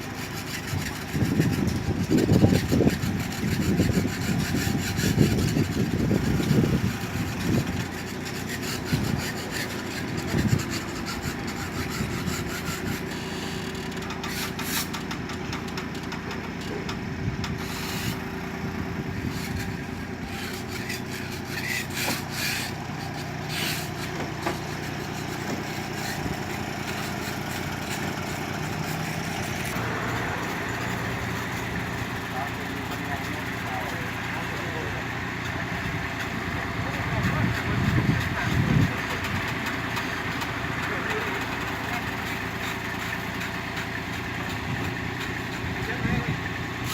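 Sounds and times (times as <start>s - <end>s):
excavator engine running: 0.0s - 46.9s
scraping and rubbing: 0.0s - 46.9s.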